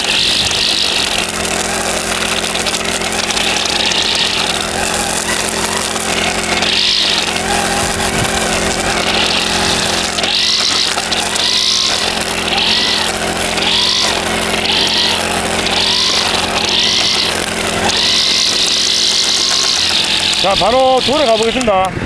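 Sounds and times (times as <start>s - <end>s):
nylon line cutting grass: 0.0s - 21.9s
brush cutter engine running: 0.0s - 22.0s.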